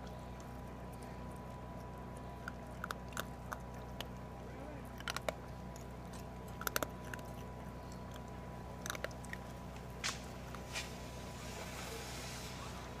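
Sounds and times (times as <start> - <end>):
crunching kibble from metal bowl: 0.0 - 11.1
steady low hum: 0.0 - 13.0.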